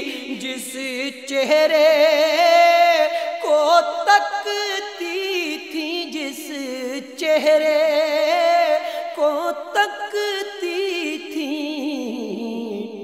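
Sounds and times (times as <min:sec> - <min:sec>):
man singing with vibrato: 0:00.0 - 0:13.0
sustained vocal backing: 0:00.0 - 0:13.0.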